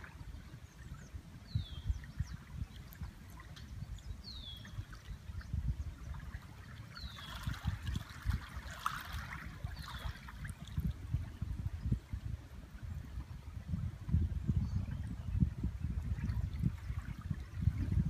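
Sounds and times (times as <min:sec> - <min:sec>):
small waves lapping: 0:00.0 - 0:14.1, 0:16.0 - 0:18.0
wind rumbling on microphone: 0:00.0 - 0:18.0.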